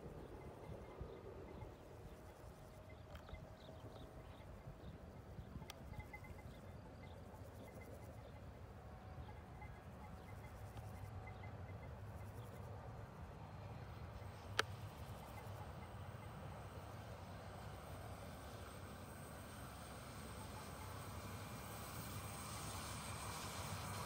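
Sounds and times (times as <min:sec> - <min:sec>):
insects chirping: 0:00.0 - 0:20.9
distant train rumble: 0:00.0 - 0:24.0.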